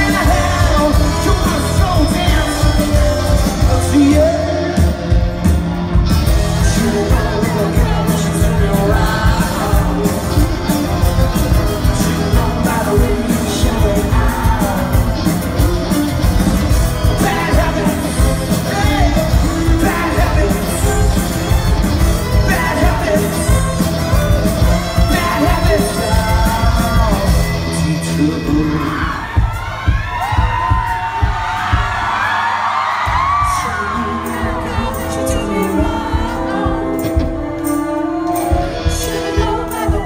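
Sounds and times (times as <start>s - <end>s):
man singing: 0.0s - 29.6s, 33.1s - 40.0s
live rock band playing: 0.0s - 40.0s.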